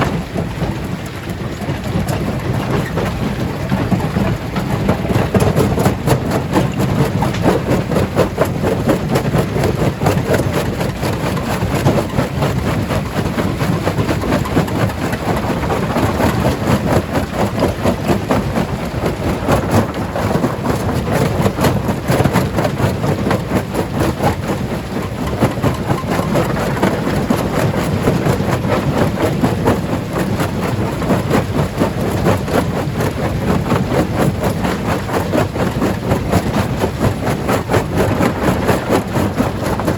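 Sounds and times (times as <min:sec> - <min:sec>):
rock knocking and rattling: 0:00.0 - 0:33.6, 0:34.2 - 0:39.9.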